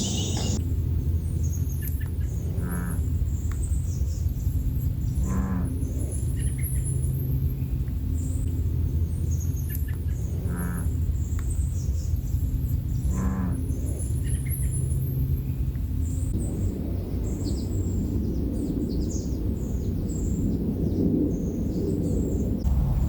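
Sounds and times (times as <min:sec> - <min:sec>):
songbirds chirping: 0:00.0 - 0:22.9
steady low rumble: 0:00.0 - 0:23.0.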